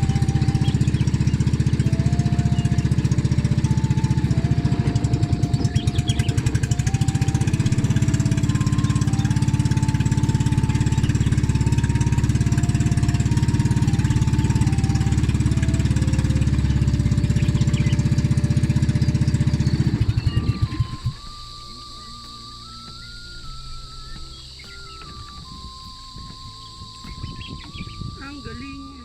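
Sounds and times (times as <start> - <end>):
small boat engine pulsing: 0.0 - 29.0.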